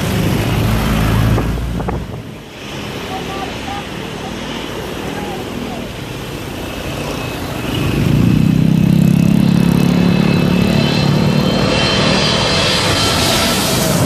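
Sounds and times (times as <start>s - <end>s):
high jet engine whine: 0.0s - 14.0s
jet airliner rumble overhead: 0.0s - 14.0s
road traffic: 0.0s - 14.0s.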